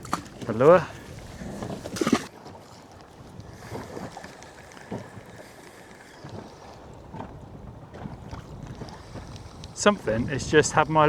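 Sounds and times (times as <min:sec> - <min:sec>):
water lapping against boat hull: 0:00.0 - 0:11.0
wind buffeting microphone: 0:00.0 - 0:11.0.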